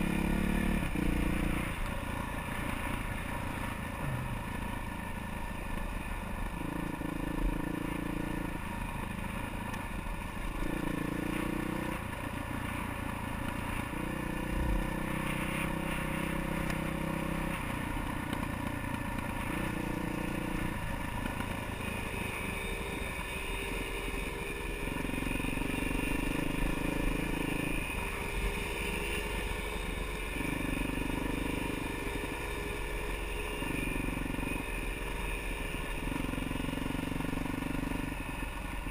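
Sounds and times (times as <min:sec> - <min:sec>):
clatter over rough ground: 0:00.0 - 0:38.9
motorcycle engine revving: 0:00.0 - 0:38.9.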